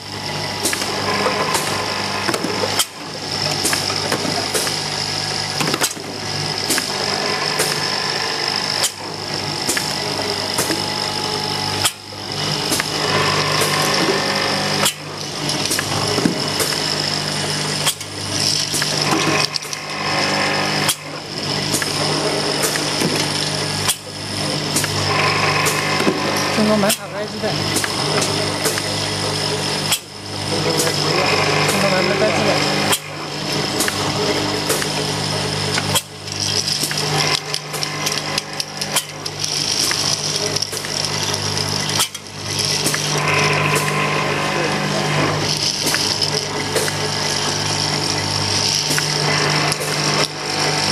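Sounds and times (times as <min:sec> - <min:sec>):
motor hum: 0:00.0 - 0:50.9.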